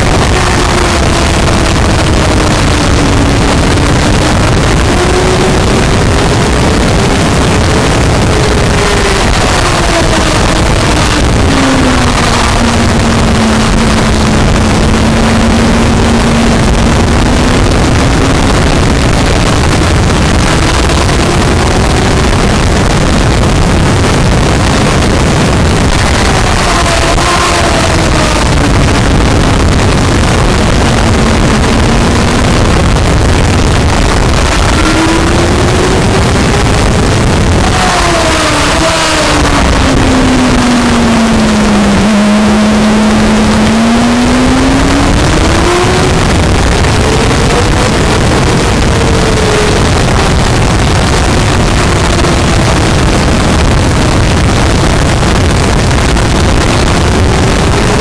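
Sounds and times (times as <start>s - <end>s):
motorcycle engine: 0.0s - 58.0s
wind noise on microphone: 0.0s - 58.0s.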